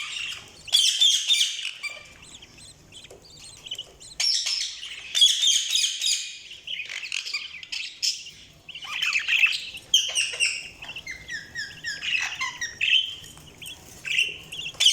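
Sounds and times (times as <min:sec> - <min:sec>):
budgerigars chirping and chattering: 0:00.0 - 0:14.9.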